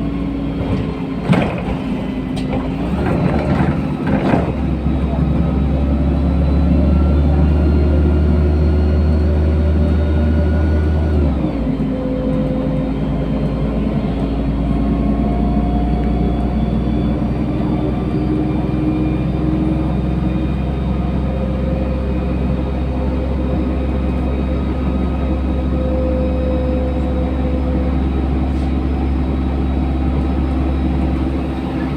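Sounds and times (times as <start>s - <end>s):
bus engine drone: 0.0s - 31.9s.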